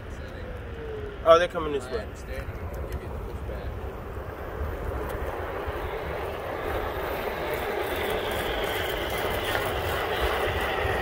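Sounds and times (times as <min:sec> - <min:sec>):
faint rising whine: 0:00.0 - 0:11.0
road noise: 0:00.0 - 0:11.0
wind buffeting microphone: 0:00.0 - 0:11.0.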